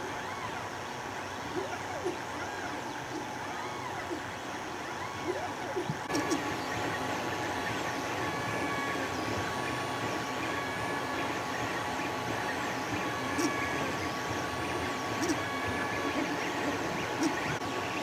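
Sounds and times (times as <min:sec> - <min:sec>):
stepper motors whining: 0:02.0 - 0:18.0.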